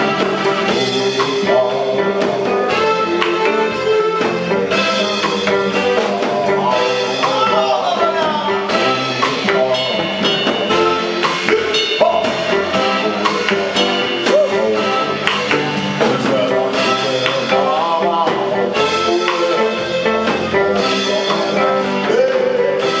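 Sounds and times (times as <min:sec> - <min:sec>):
live band playing dance music: 0:00.0 - 0:23.0
person singing: 0:00.0 - 0:23.0.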